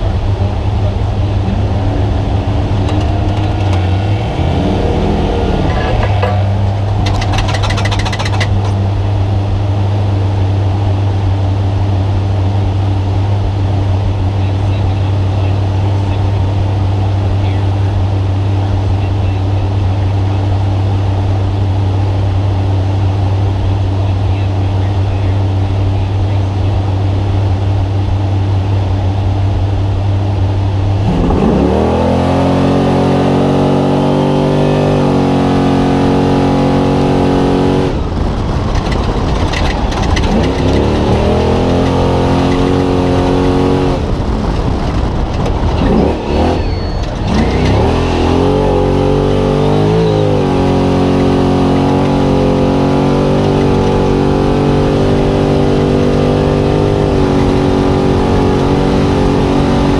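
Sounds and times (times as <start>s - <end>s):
truck engine idling and revving: 0.0s - 59.9s.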